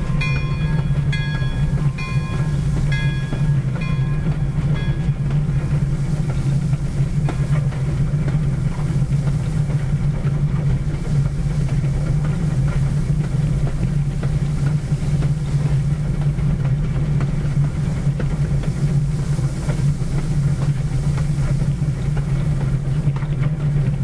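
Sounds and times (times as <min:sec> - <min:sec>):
steam locomotive rumbling: 0:00.0 - 0:24.0.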